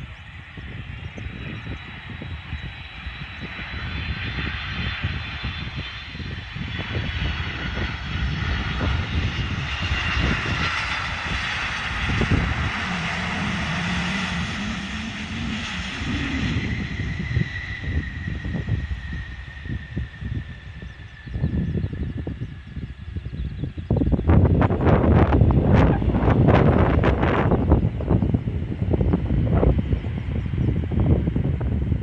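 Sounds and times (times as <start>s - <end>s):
jet engines whining and rumbling: 0.0s - 32.0s.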